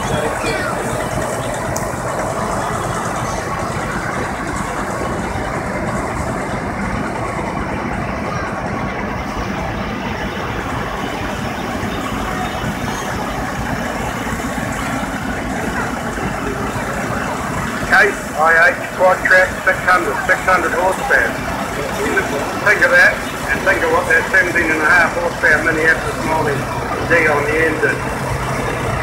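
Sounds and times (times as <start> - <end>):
tractor diesel engines driving past: 0.0 - 29.0.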